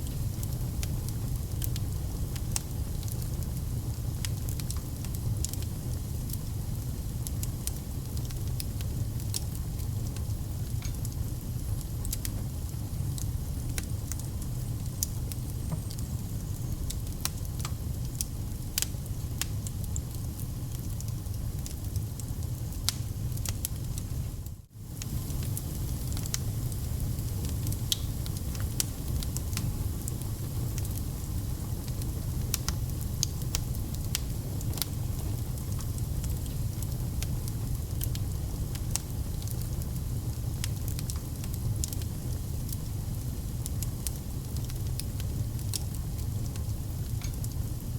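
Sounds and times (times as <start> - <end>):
fire crackling and popping: 0.0 - 47.9
low rumble of flames: 0.0 - 47.9.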